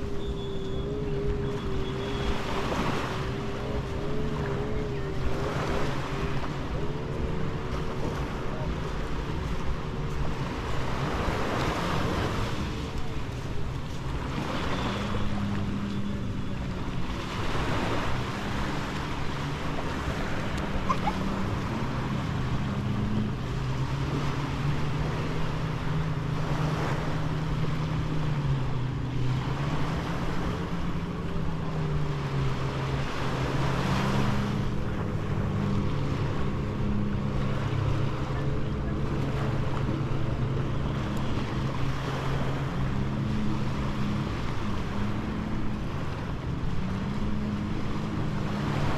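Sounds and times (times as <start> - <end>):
low engine drone: 0.0 - 48.9
surf washing onto beach: 0.0 - 48.9.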